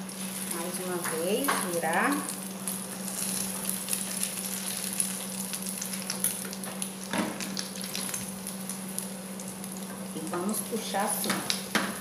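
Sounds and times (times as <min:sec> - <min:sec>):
egg sizzling in frying pan: 0:00.0 - 0:12.0.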